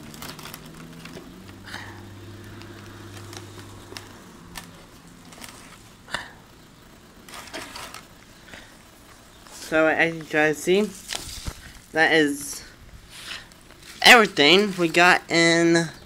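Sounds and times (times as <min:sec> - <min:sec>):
box and bag rustling: 0:00.0 - 0:06.1, 0:07.2 - 0:15.2
low steady hum: 0:00.0 - 0:16.0.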